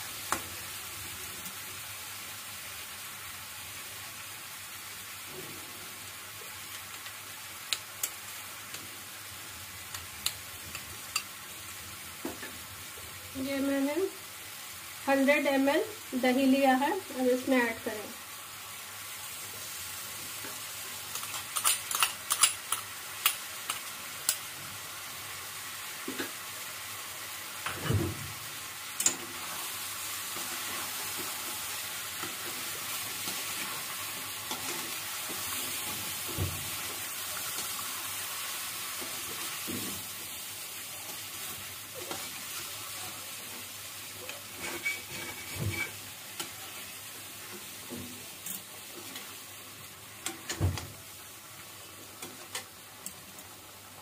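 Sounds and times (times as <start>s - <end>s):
chicken sizzling in pan: 0.0s - 54.0s.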